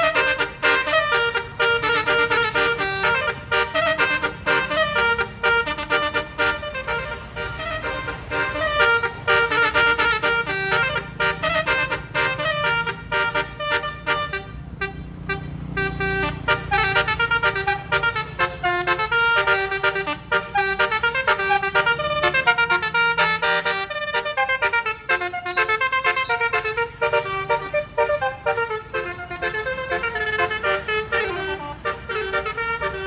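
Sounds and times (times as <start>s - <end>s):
bus musical horn tune: 0.0s - 33.0s.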